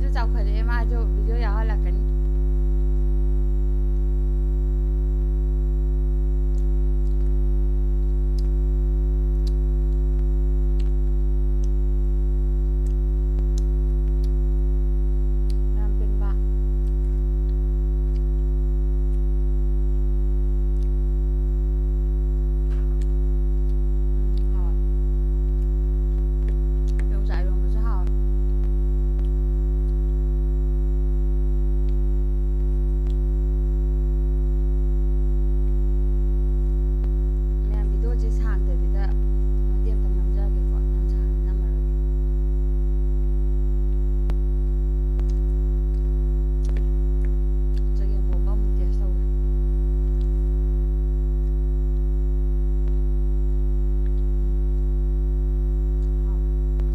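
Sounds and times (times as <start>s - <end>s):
loud electrical hum: 0.0s - 56.9s.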